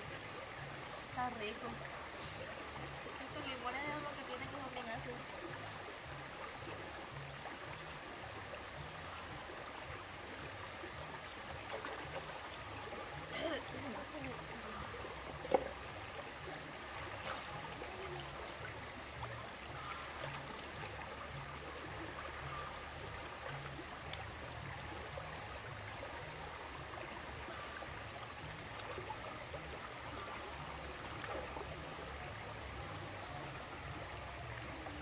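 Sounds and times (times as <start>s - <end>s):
river running over stones: 0.0s - 35.0s.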